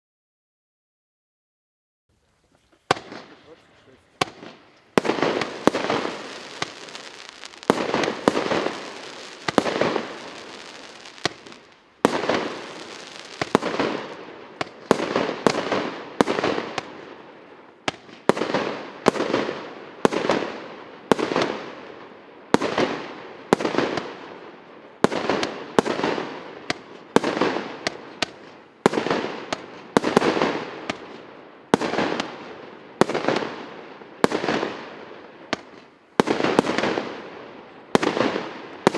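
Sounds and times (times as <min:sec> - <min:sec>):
fireworks aerial bursts: 0:02.1 - 0:38.9
fireworks shots: 0:02.5 - 0:38.9.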